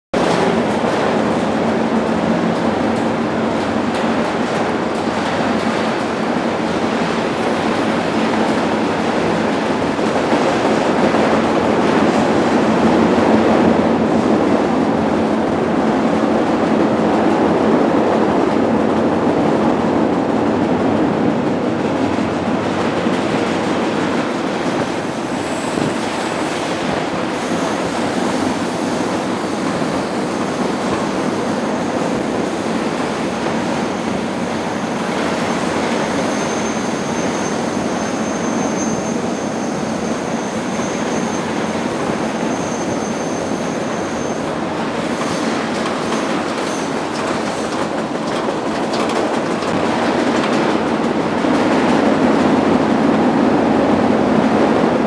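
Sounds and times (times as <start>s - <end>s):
freight train rattling rumble: 0.1s - 55.0s.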